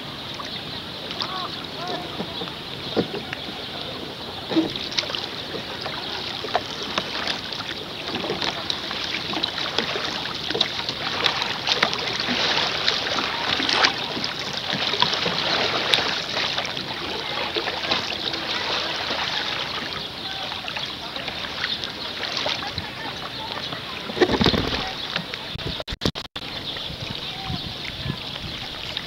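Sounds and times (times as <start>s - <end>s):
water rushing along hull: 0.0s - 29.0s
water splashes and drips: 0.0s - 29.0s.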